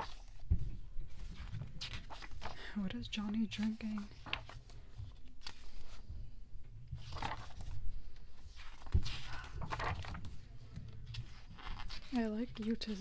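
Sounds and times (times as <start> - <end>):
paper pages rustling: 0.0 - 6.2, 6.9 - 13.0.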